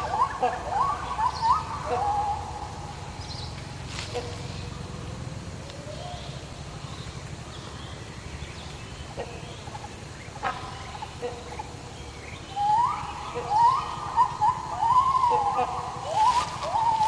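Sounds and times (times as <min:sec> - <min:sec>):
hornbill calling: 0:00.0 - 0:07.1, 0:09.0 - 0:17.0
low background noise: 0:00.0 - 0:17.0.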